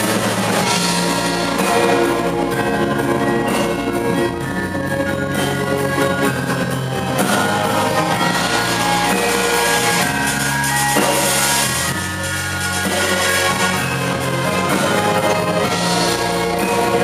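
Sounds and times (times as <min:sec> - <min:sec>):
electric bass: 0:00.0 - 0:17.0
gamelan metallophones and gongs: 0:00.0 - 0:17.0
rock drum kit: 0:00.0 - 0:17.0.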